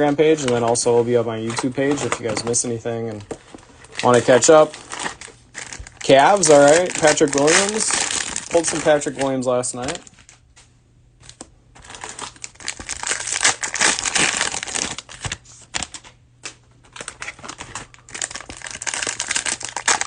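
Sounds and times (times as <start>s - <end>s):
plastic packaging crinkling: 0.2s - 10.4s, 11.2s - 16.1s, 16.9s - 20.0s.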